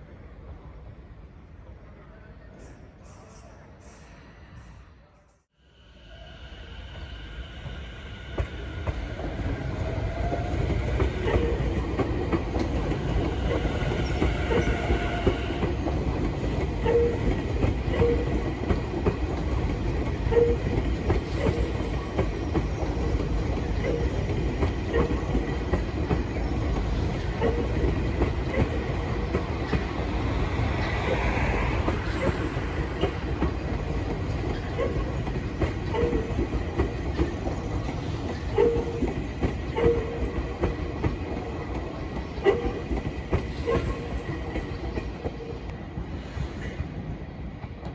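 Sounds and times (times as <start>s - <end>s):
electric train rumbling on rails: 0.0s - 47.9s.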